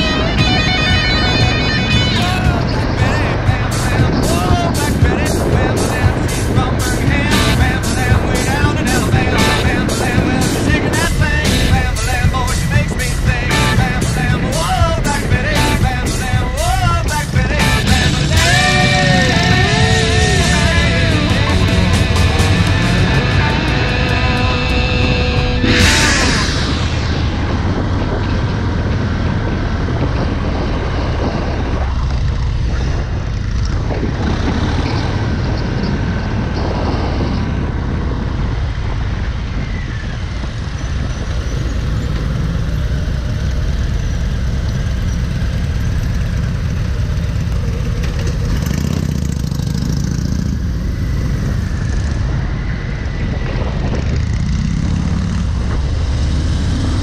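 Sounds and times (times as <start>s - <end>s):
motorcycle engine running: 0.0s - 39.2s, 40.3s - 57.0s
wind rushing over microphone: 0.0s - 57.0s.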